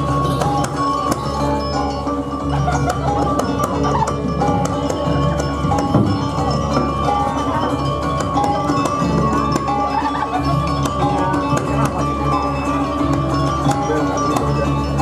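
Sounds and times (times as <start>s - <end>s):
drums: 0.0s - 15.0s
metallophones ringing melody: 0.0s - 15.0s.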